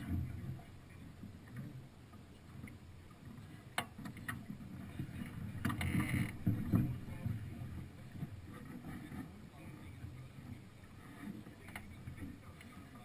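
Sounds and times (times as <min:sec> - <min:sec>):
rumble of wind and water: 0:00.0 - 0:13.0.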